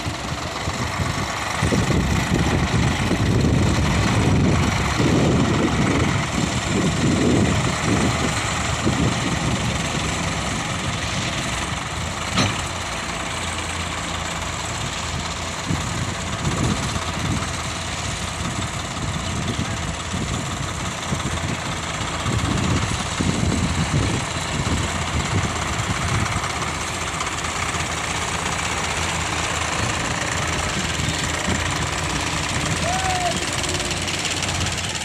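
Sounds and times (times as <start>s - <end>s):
diesel tractor engine: 0.0s - 35.0s.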